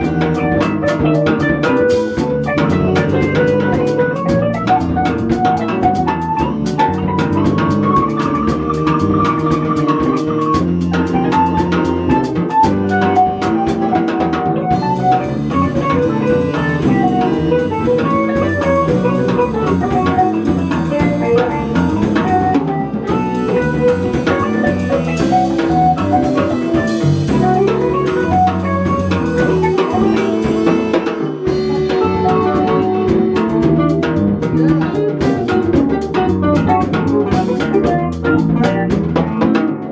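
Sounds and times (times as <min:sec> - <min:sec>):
saxophone: 0:00.0 - 0:39.2
bass: 0:00.0 - 0:39.9
drum kit with cymbals: 0:00.0 - 0:39.9
electric guitar: 0:00.0 - 0:39.9.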